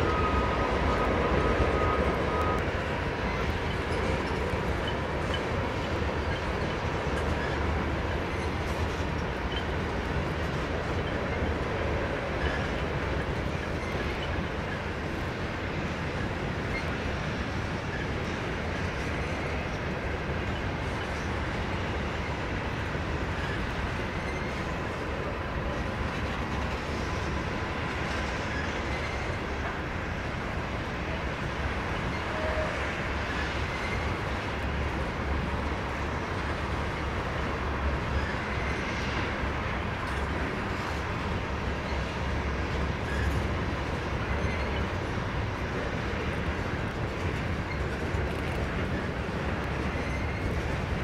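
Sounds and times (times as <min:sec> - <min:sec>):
freight train rolling past: 0:00.0 - 0:51.0.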